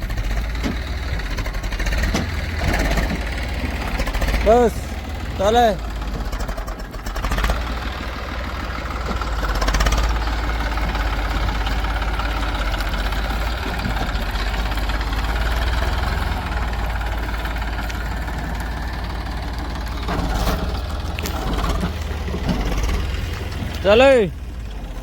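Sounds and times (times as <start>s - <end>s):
diesel engine rumbling: 0.0s - 25.0s.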